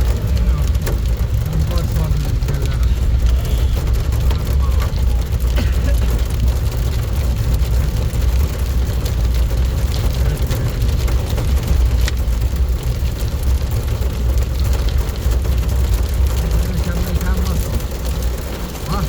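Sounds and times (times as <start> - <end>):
heavy rain: 0.0 - 19.0
low rumble: 0.0 - 19.0.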